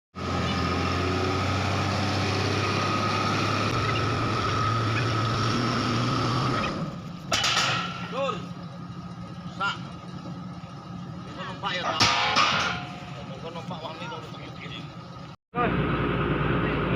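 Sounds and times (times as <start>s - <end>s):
excavator diesel engine running: 0.2s - 16.9s.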